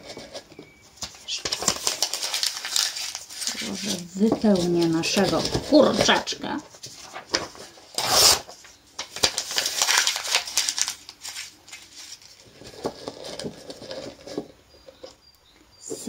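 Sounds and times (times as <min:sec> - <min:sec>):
paper crinkling: 0:00.0 - 0:15.1.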